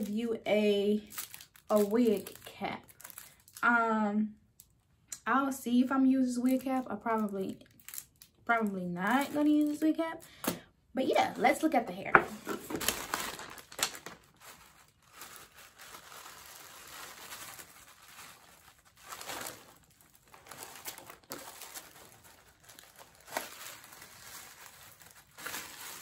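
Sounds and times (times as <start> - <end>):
plastic packaging crinkling: 0.8 - 3.6, 6.5 - 10.0, 11.2 - 26.0.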